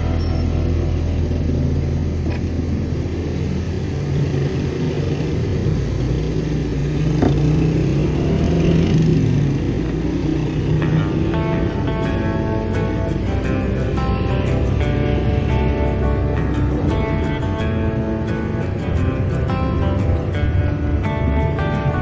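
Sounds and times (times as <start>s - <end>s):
idling car engines: 0.0s - 22.0s.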